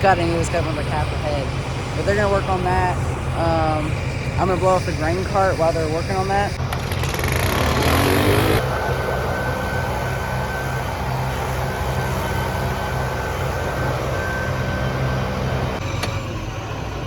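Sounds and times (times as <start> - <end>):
engine running steadily: 0.0 - 17.0
faint high whine: 0.0 - 17.0.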